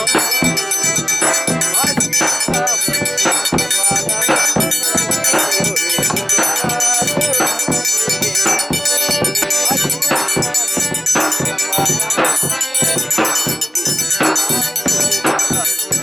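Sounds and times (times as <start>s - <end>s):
accordion melody: 0.0s - 16.0s
drum beat: 0.0s - 16.0s
triangle ringing: 0.0s - 16.0s.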